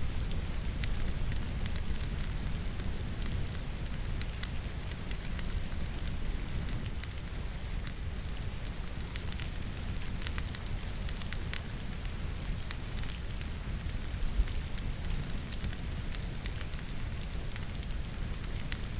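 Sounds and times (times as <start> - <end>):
rain falling: 0.0 - 18.9
wood fire crackling: 0.0 - 18.9.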